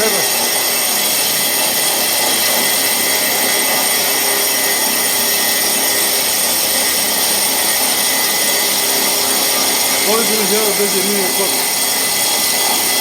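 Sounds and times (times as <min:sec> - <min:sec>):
router machine whining: 0:00.0 - 0:13.0.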